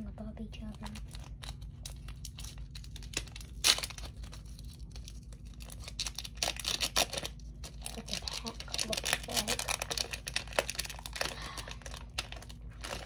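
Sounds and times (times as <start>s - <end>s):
plastic wrapper crinkling: 0.4s - 13.0s.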